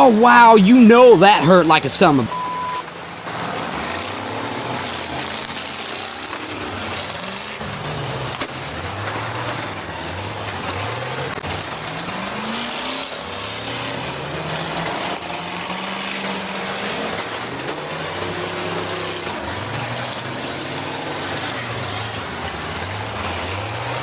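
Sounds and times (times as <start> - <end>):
bus engines revving: 0.0 - 24.0.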